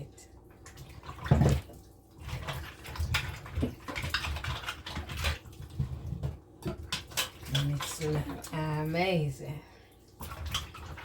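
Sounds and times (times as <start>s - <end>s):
water splashing: 0.5s - 11.0s.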